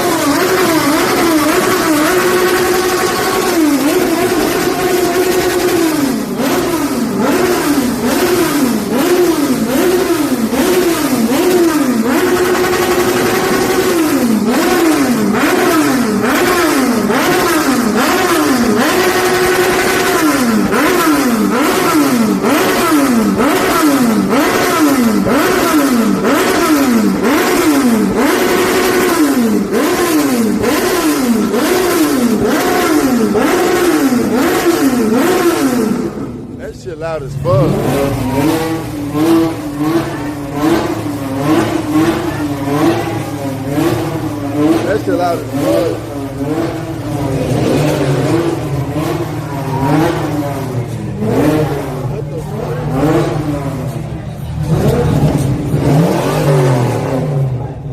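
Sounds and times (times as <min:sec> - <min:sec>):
car engine revving hard: 0:00.0 - 0:57.9.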